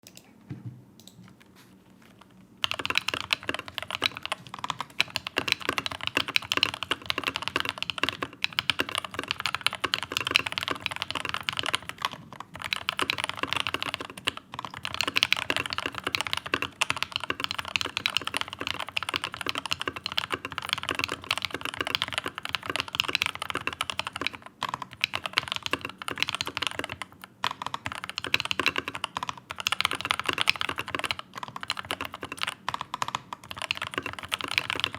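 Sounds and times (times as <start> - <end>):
mechanical keyboard typing: 2.6 - 34.9.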